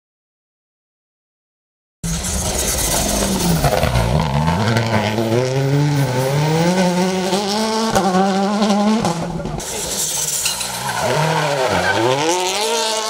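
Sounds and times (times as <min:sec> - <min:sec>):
rally car engine revving: 0:02.0 - 0:13.0.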